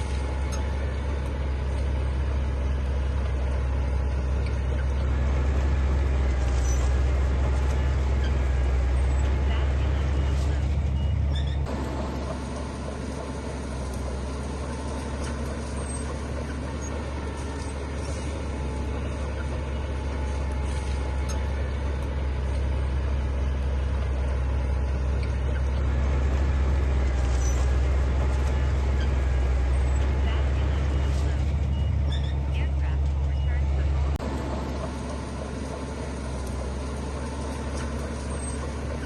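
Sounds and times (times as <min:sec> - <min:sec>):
diesel machinery engine drone: 0:00.0 - 0:39.0.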